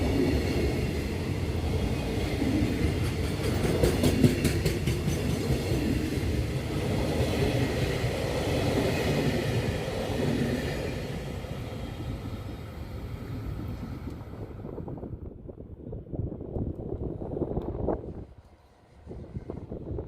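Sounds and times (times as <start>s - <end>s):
freight train rumbling on rails: 0.0s - 20.0s.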